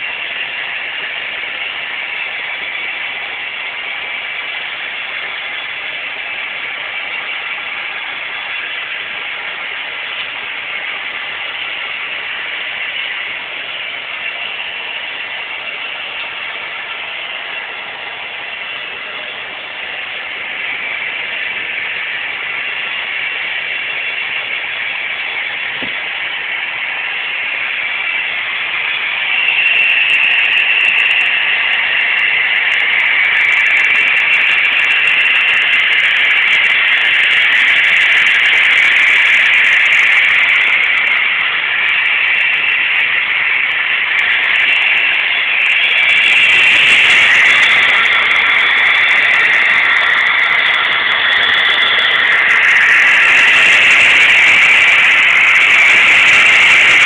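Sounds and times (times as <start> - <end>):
model train whirring on track: 0.0 - 57.0.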